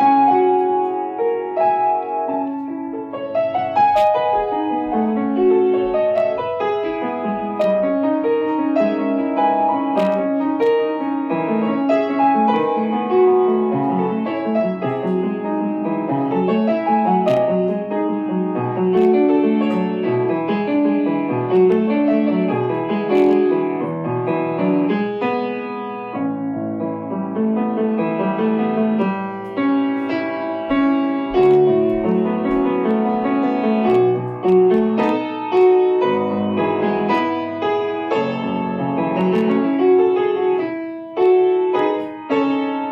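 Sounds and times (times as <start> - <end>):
solo piano music: 0.0 - 42.9.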